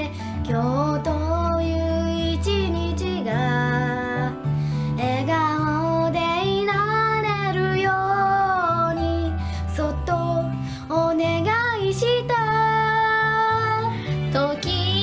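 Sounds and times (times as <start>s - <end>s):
girls singing pop song: 0.0s - 15.0s
instrumental backing with bass: 0.0s - 15.0s.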